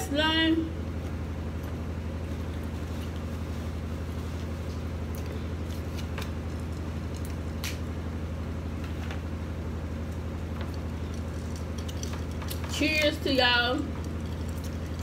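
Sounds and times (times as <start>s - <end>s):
low appliance hum: 0.0s - 15.0s.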